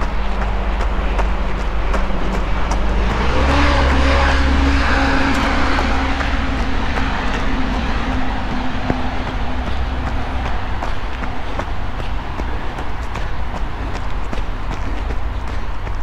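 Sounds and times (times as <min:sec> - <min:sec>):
runner's footfalls: 0:00.0 - 0:16.0
vehicle passing by: 0:00.0 - 0:16.0.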